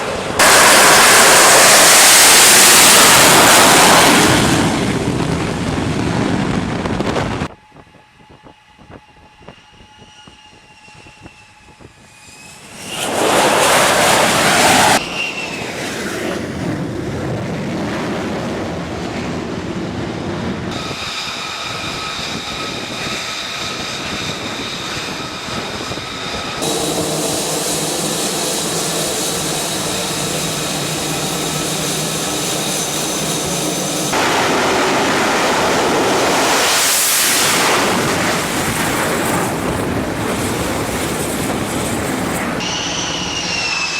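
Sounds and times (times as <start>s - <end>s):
jet engine whine: 0.0s - 43.9s.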